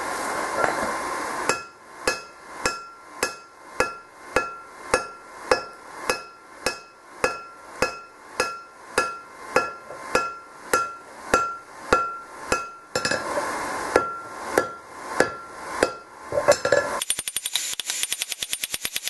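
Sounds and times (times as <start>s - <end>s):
hammer striking hot steel on anvil: 1.4s - 13.3s, 13.9s - 19.0s.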